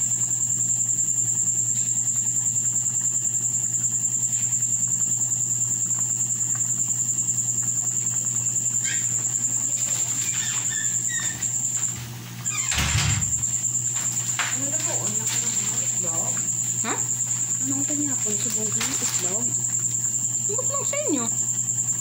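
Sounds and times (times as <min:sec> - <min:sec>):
noodles boiling in a pan: 0:00.0 - 0:22.0.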